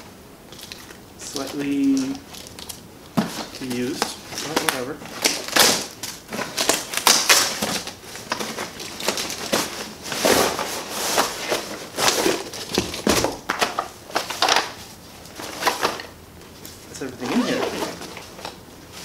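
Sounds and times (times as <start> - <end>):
packaging rustling and crinkling: 0.5 - 19.0.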